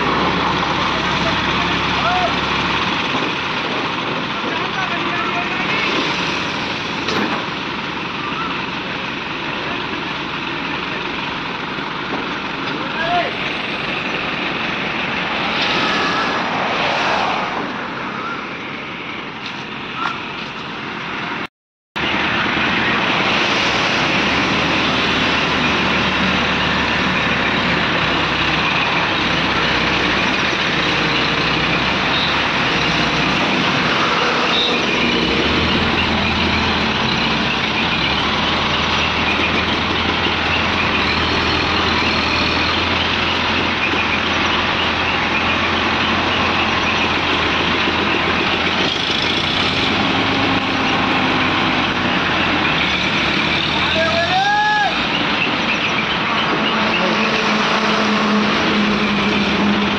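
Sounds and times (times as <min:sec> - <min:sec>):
crane diesel engines running: 0:00.0 - 0:59.9.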